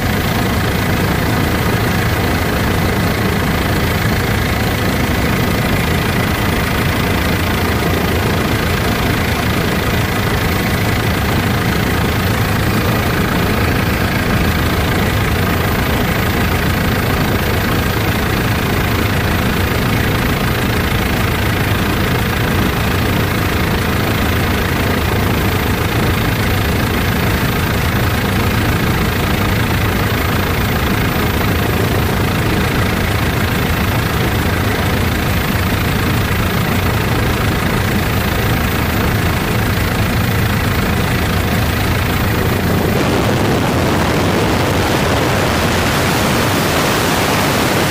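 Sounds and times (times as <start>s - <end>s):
helicopter engine and rotor: 0.0s - 47.9s.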